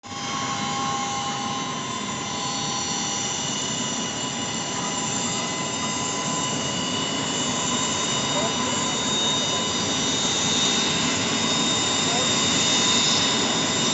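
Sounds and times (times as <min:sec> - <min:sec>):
high turbine whines: 0:00.0 - 0:13.9
jet engines rushing: 0:00.0 - 0:13.9.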